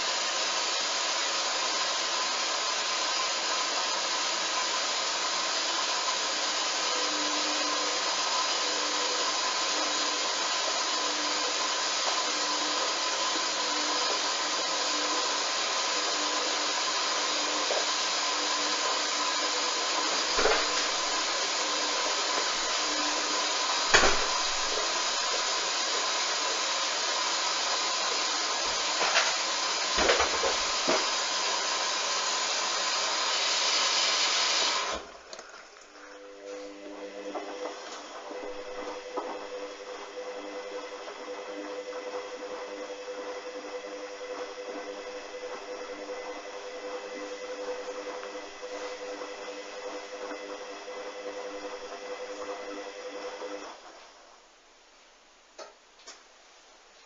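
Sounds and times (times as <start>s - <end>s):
washing machine whirring: 0.0s - 54.7s.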